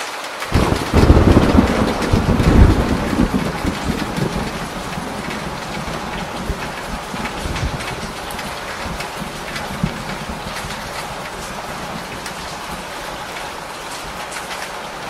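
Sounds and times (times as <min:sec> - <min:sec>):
heavy rain pouring off roof: 0:00.0 - 0:15.0
thunder rumbling: 0:00.5 - 0:15.0.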